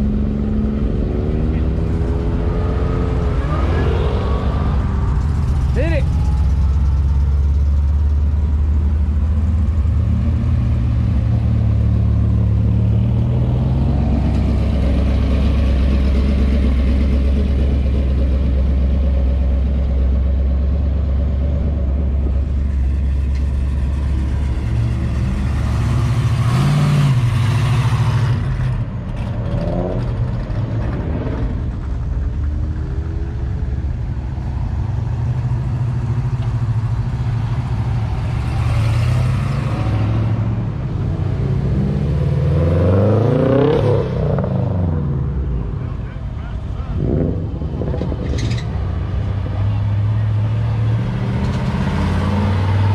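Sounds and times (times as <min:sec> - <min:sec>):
car engines rumbling: 0:00.0 - 0:52.9
engines revving: 0:00.0 - 0:52.9.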